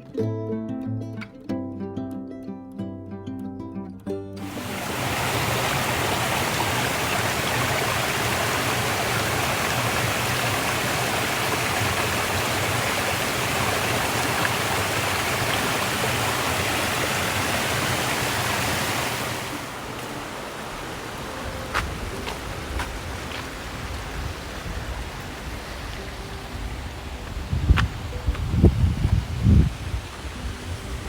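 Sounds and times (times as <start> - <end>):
mountain stream rushing: 4.4 - 31.0.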